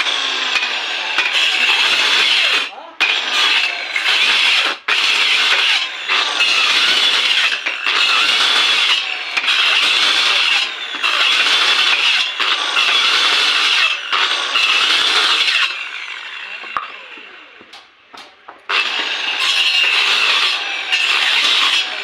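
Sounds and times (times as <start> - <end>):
tool rasping wood: 0.0 - 17.3, 18.7 - 22.0.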